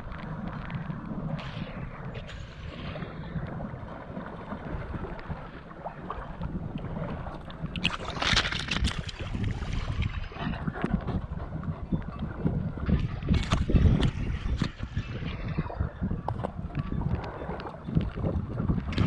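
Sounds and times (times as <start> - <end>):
water splashing and lapping: 0.0 - 19.0
wind buffeting microphone: 0.0 - 19.0.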